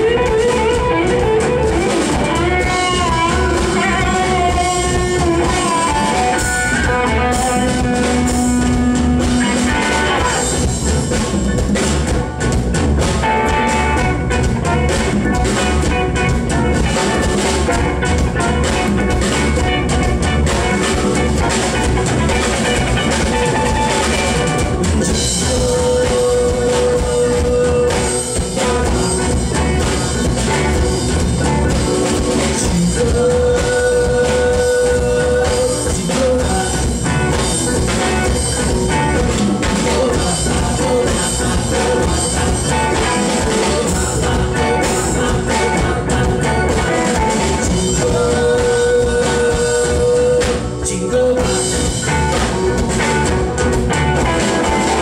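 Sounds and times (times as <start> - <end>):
loud music with steady drum beat: 0.0 - 55.0.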